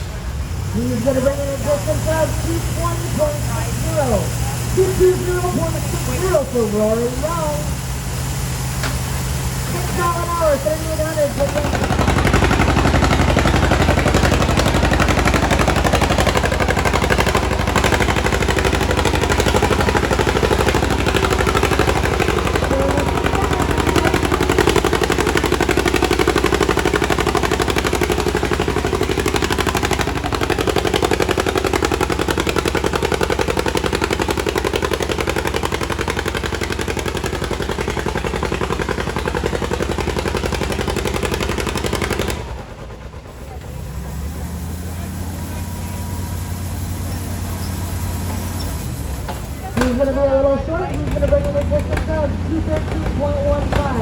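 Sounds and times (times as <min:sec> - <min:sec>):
tractor engine at full throttle: 0:00.0 - 0:54.0.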